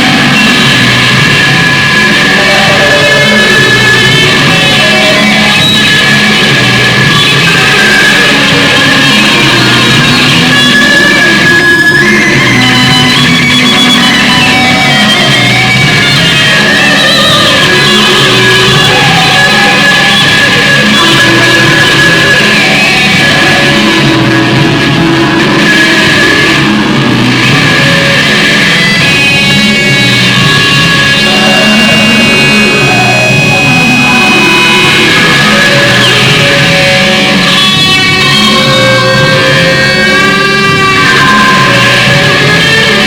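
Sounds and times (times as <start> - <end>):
loud rock music with guitar: 0.0 - 43.0.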